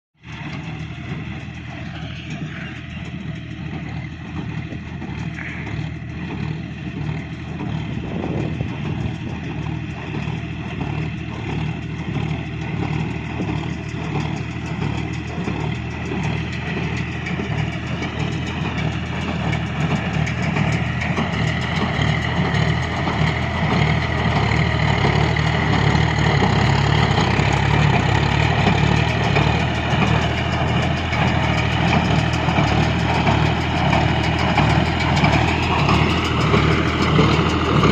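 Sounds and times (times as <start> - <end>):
tractor diesel engine running: 0.2 - 37.9.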